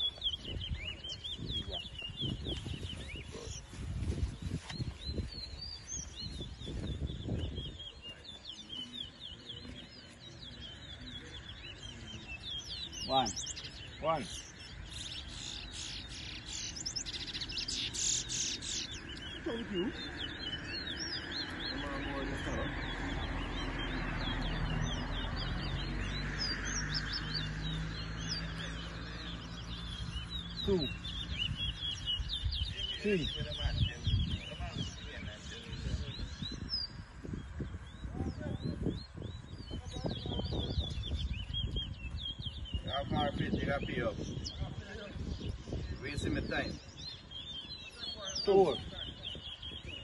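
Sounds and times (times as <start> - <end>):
finch singing high chirps: 0.0 - 50.0.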